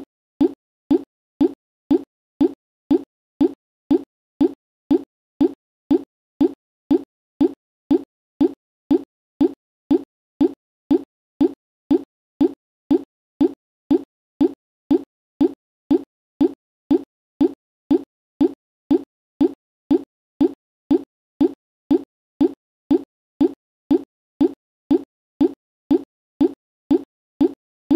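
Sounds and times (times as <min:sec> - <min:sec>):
low plop-like blips: 0:00.0 - 0:27.6.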